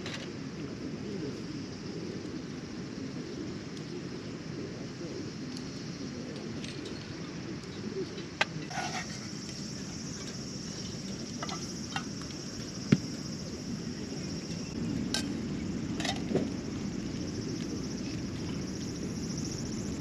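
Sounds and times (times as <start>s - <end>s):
insects chirring: 0.0s - 20.0s
low outdoor rumble: 0.0s - 20.0s.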